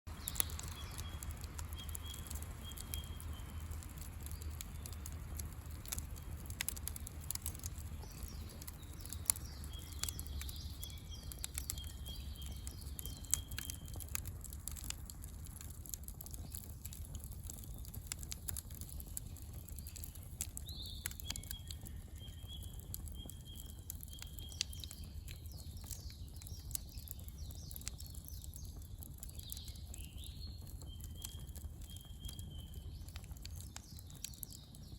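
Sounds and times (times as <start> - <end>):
campfire crackling: 0.1 - 34.9.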